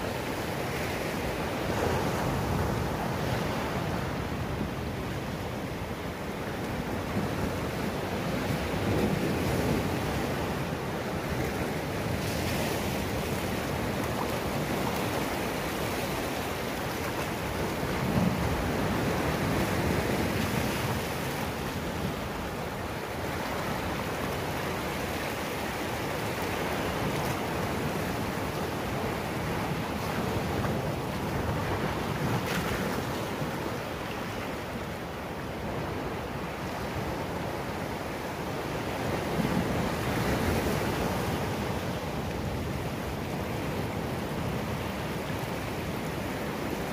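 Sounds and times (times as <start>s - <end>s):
sea surf breaking over rocks: 0.0s - 46.9s.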